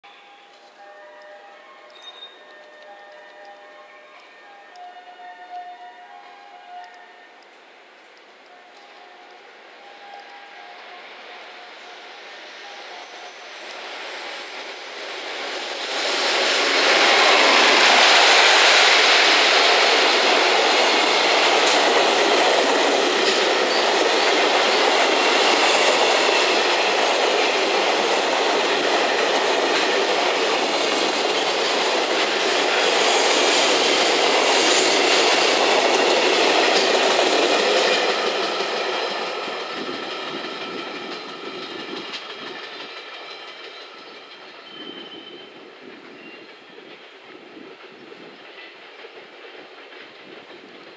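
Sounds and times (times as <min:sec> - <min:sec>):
freight train wheels on rails: 0:00.1 - 0:50.9.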